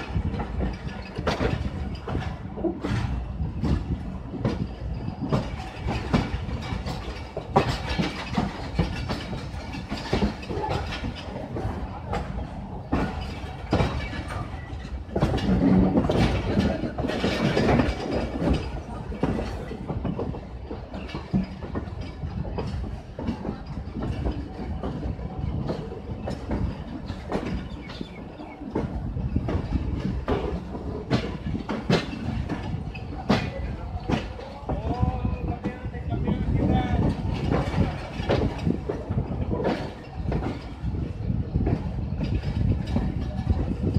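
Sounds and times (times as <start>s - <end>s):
train coach rumbling: 0.0s - 43.9s
wheels clacking over rail joints: 0.0s - 43.9s.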